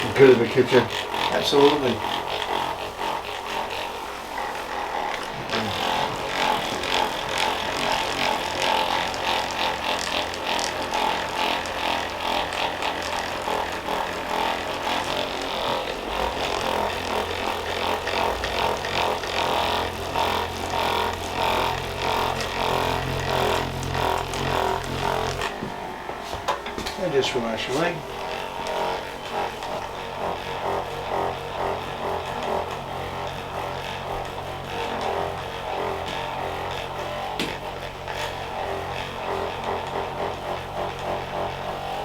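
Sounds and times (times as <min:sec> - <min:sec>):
small motor pulsing: 0:00.0 - 0:42.0.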